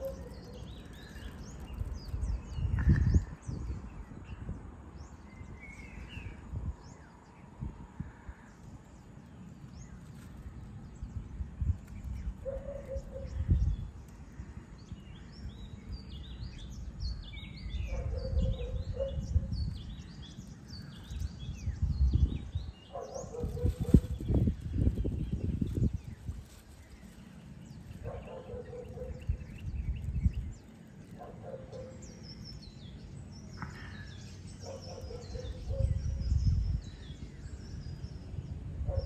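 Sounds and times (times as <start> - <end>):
small birds chirping: 0.0 - 39.0
wind rumble on microphone: 0.0 - 39.0.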